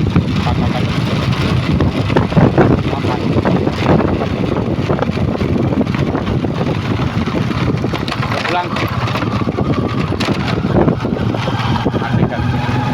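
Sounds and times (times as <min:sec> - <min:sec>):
truck engine running: 0:00.0 - 0:12.9
wind buffeting microphone: 0:00.0 - 0:12.9.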